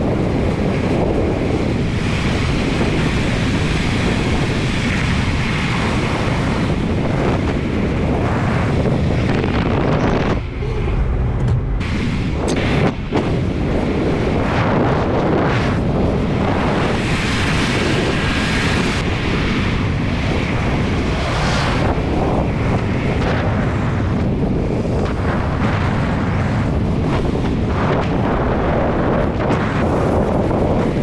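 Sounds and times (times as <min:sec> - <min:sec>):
road and engine rumble: 0:00.0 - 0:31.0
wind rushing over microphone: 0:00.0 - 0:31.0.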